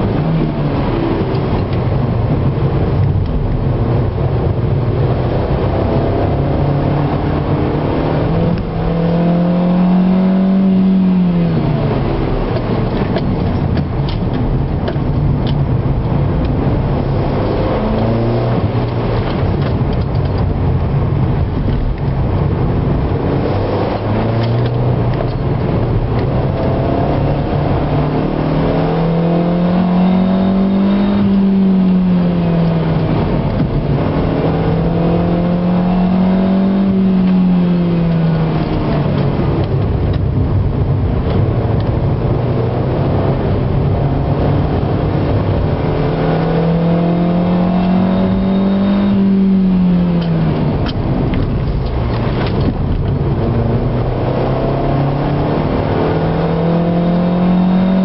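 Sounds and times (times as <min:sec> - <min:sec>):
car engine revving: 0:00.0 - 0:58.0
road and tyre noise: 0:00.0 - 0:58.0.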